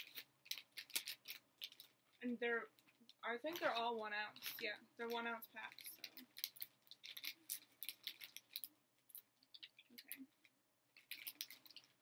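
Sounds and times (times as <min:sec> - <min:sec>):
plastic snack packet crinkling: 0:00.0 - 0:12.0.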